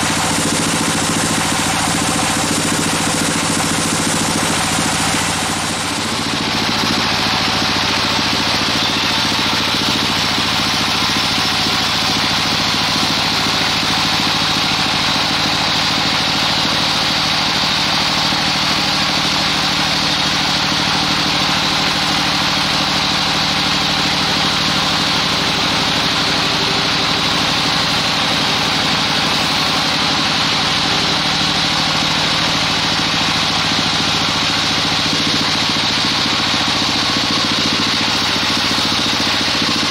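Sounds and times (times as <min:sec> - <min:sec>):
band saw cutting through log: 0:00.0 - 0:39.9.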